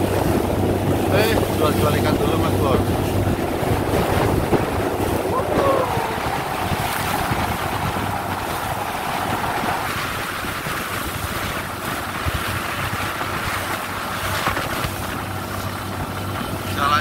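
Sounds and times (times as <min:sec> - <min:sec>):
boat engine running: 0:00.0 - 0:17.0
water rushing along hull: 0:00.0 - 0:17.0
wind buffeting microphone: 0:00.0 - 0:17.0.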